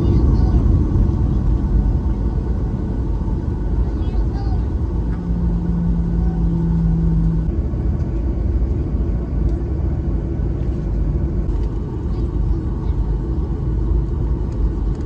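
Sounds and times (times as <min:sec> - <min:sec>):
engine and airflow rumble: 0:00.0 - 0:15.0
steady hum: 0:00.0 - 0:15.0.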